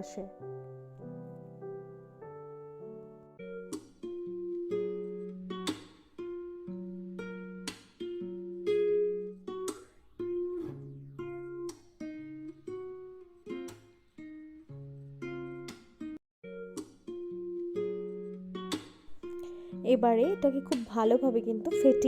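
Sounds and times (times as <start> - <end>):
plucked acoustic guitar tune: 0.0 - 22.0.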